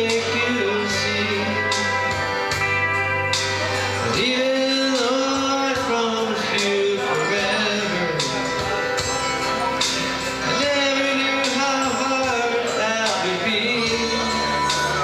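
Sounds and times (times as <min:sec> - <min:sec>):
country karaoke backing track: 0:00.0 - 0:15.0
steady bass: 0:00.0 - 0:15.0
steel guitar sliding melody: 0:00.0 - 0:15.0.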